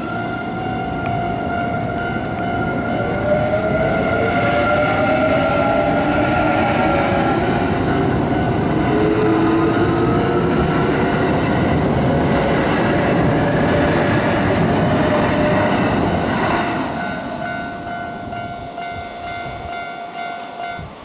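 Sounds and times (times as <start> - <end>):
level-crossing warning bell: 0.0 - 13.8, 14.4 - 21.0
train wheels rumbling on rails: 0.0 - 21.0.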